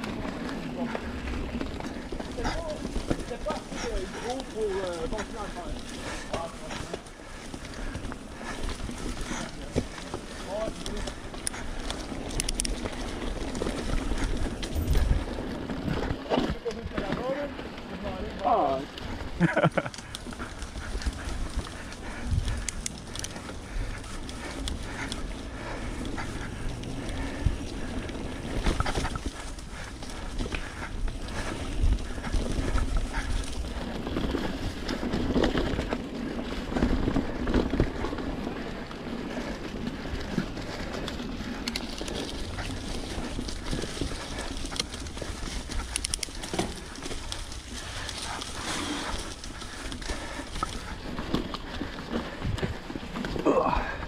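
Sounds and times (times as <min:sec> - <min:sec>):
mountain bike on dirt trail: 0:00.0 - 0:54.0.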